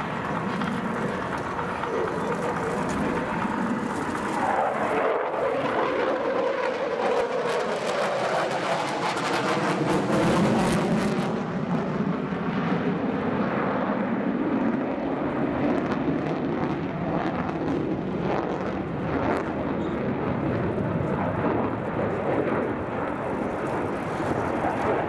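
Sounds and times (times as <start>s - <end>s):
jet fighters flying overhead: 0.0s - 25.0s.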